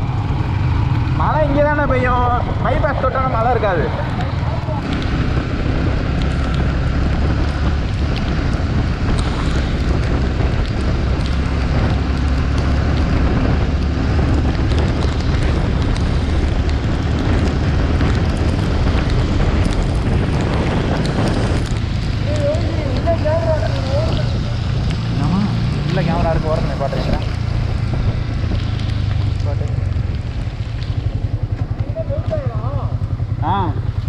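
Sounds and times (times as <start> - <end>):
motorcycle engine running: 0.0 - 34.0
wind buffeting microphone: 0.0 - 34.0
rain ticks: 1.0 - 34.0.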